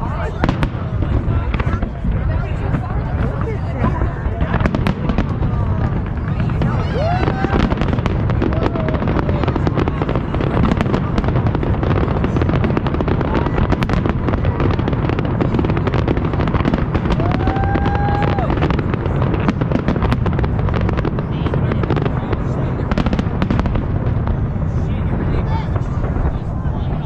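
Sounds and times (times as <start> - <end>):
fireworks crackling and popping: 0.0 - 27.0
low rumble of firework bursts: 0.0 - 27.0.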